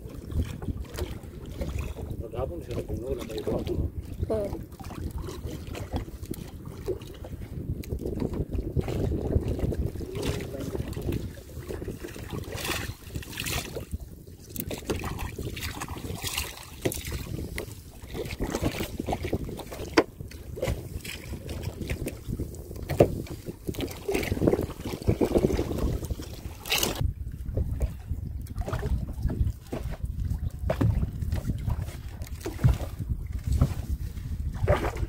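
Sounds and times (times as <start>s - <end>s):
water splashing around boat: 0.0s - 35.0s
wind rumble on microphone: 0.0s - 35.0s.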